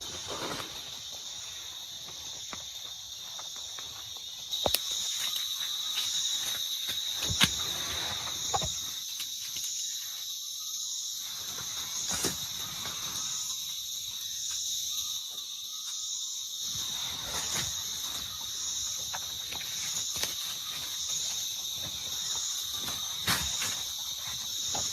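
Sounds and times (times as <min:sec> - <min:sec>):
insect chorus buzzing: 0:00.0 - 0:24.9.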